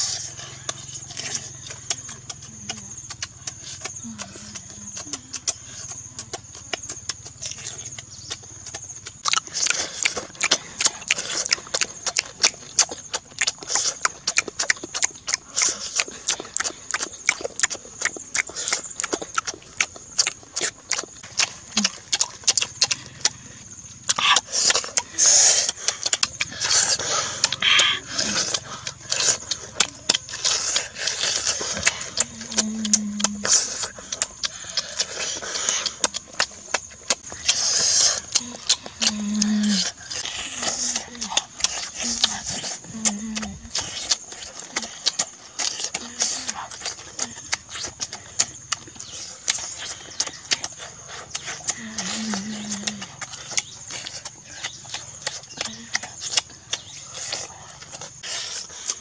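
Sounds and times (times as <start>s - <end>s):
mouth chewing and smacking: 0.0s - 59.0s.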